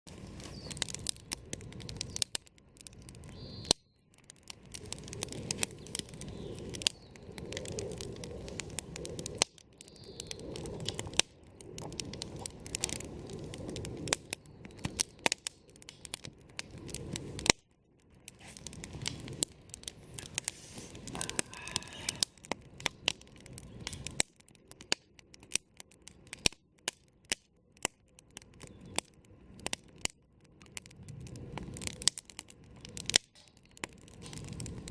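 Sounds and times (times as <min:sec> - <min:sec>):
campfire crackling and popping: 0:00.1 - 0:34.9
rush of burning flames: 0:00.1 - 0:34.9.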